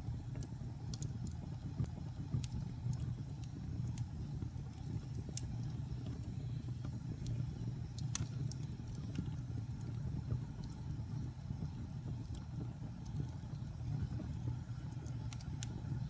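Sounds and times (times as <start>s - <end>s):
fire crackles and pops: 0.0s - 16.0s
flames rumbling: 0.0s - 16.0s.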